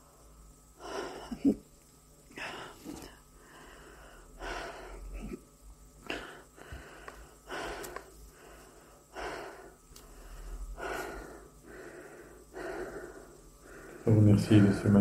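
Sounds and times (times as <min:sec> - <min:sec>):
person breathing heavily wheezing: 0:00.8 - 0:01.6, 0:02.3 - 0:14.8.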